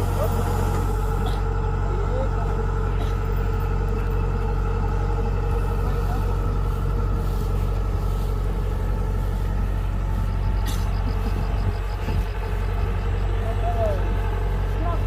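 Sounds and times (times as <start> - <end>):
combine harvester engine drone: 0.0 - 15.0
steady hum: 0.0 - 15.0.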